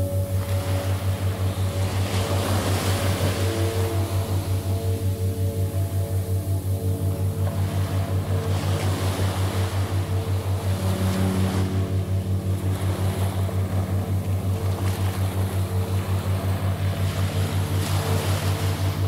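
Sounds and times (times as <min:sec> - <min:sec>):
pulsing low hum: 0:00.0 - 0:19.0
rushing hiss like surf: 0:00.0 - 0:19.0
soft held drone notes: 0:00.0 - 0:19.0.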